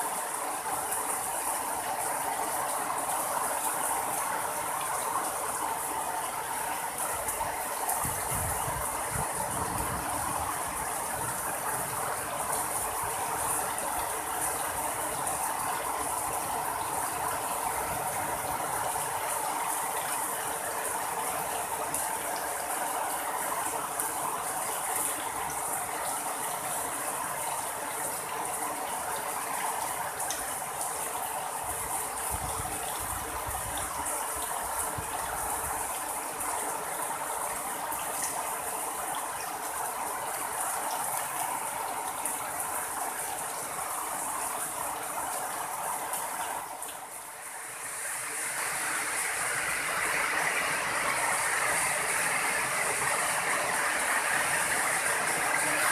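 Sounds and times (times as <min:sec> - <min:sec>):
heavy rain on leaves and puddles: 0:00.0 - 0:55.9.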